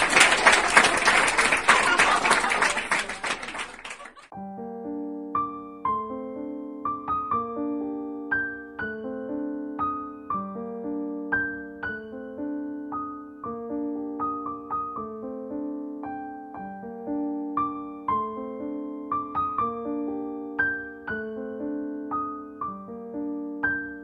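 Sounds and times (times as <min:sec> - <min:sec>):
gentle piano melody: 0:04.3 - 0:24.0.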